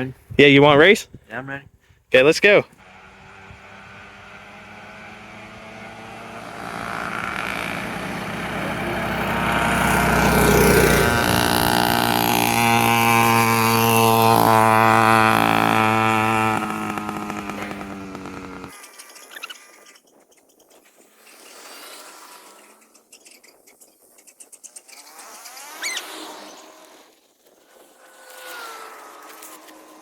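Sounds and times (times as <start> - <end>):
small two-stroke engines racing: 2.8 - 19.5, 21.1 - 30.0.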